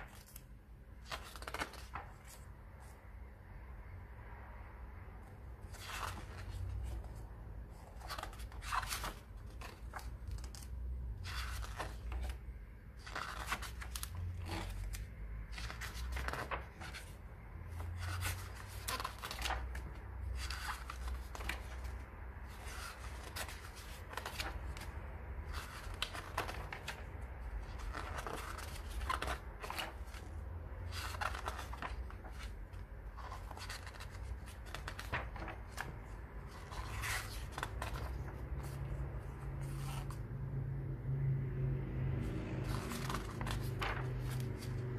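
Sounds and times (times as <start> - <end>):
pages being turned: 0.0 - 3.0, 5.6 - 40.2, 42.3 - 44.9
low steady rumble: 0.8 - 44.9.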